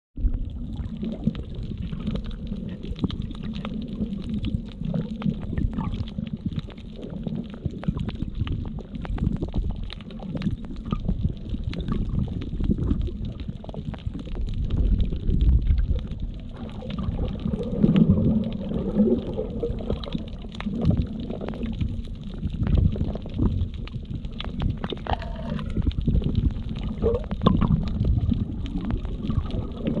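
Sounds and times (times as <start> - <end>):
faint crackling clicks: 0.2 - 30.0
muffled underwater sloshing: 0.2 - 30.0.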